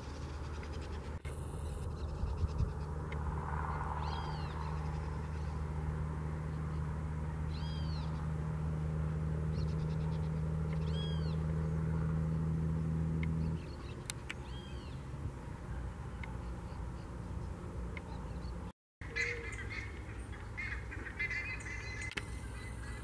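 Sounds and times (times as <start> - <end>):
arched bird calls: 0.0 - 5.8, 6.5 - 8.3, 9.5 - 12.1, 13.2 - 15.1, 15.7 - 23.0.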